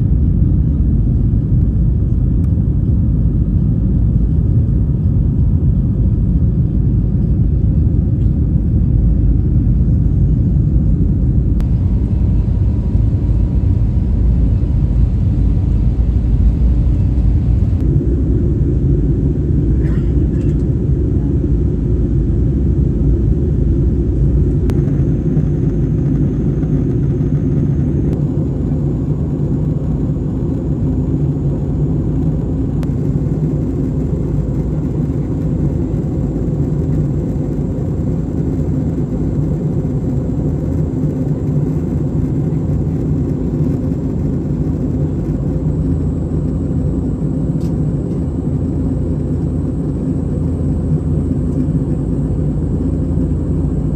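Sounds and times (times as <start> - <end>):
airliner cabin rumble: 0.0 - 53.9
faint high whine: 5.4 - 53.9.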